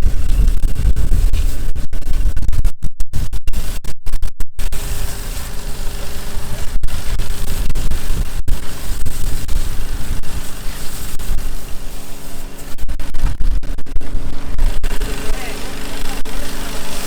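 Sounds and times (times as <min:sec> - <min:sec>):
loud rough rumbling: 0:00.0 - 0:04.0, 0:04.6 - 0:17.0.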